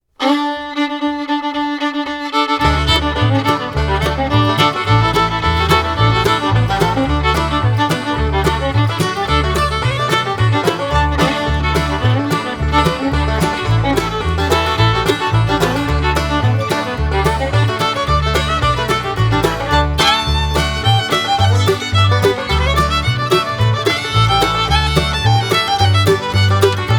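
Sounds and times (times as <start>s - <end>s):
fiddle tune with bass beat: 0.1s - 26.9s.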